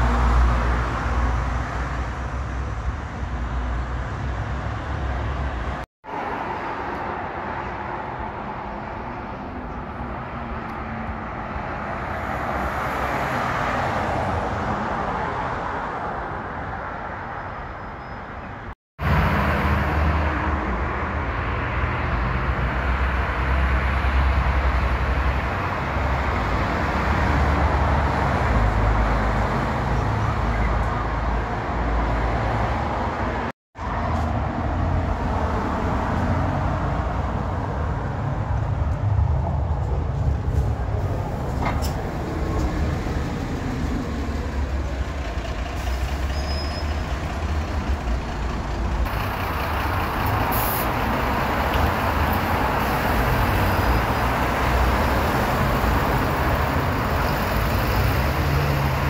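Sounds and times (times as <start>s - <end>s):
buses and cars passing: 0.0s - 59.0s.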